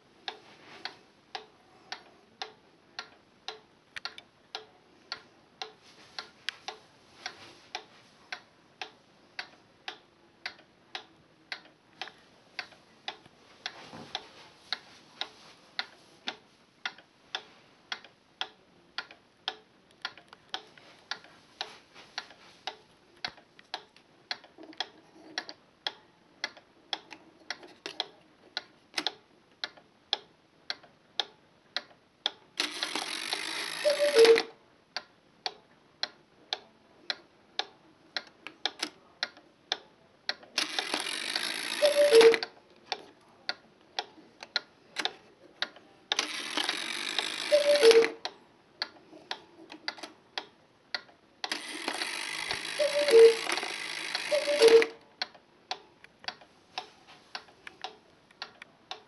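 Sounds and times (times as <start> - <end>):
clock ticking: 0.2 - 59.0.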